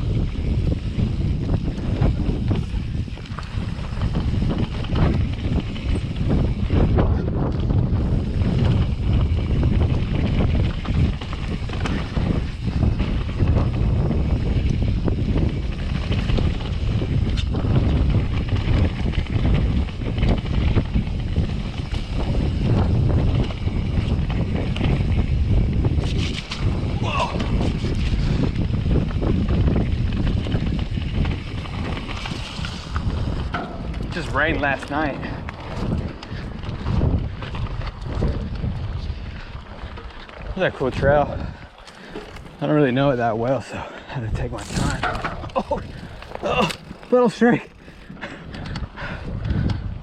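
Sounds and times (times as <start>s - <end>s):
bike knocks and rattles: 0.0s - 43.7s, 44.4s - 49.9s
wind on microphone: 0.0s - 50.0s.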